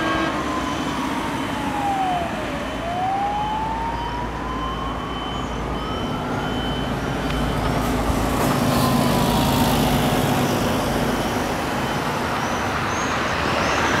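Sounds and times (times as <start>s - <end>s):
distant fire engine siren: 0.0s - 12.3s
bus driving past: 0.0s - 14.0s
street traffic noise: 0.0s - 14.0s.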